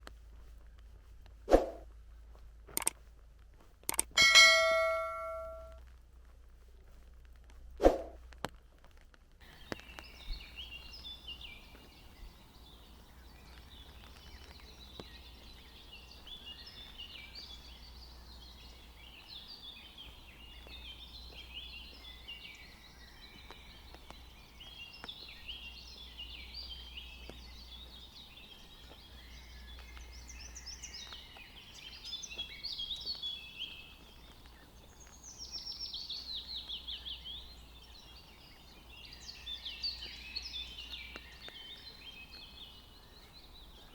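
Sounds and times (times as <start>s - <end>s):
forest birds singing: 3.9s - 5.7s, 9.4s - 43.9s.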